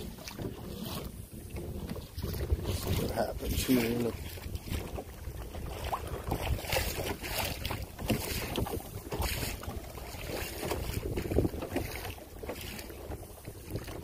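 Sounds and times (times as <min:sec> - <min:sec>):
water splashing: 0:00.0 - 0:14.0
wind buffeting microphone: 0:00.0 - 0:14.0.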